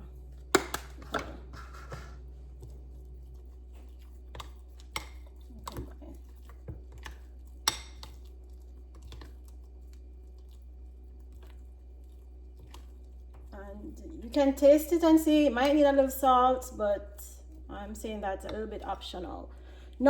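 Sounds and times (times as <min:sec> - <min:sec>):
utensil stirring thick mixture: 0:00.0 - 0:20.0.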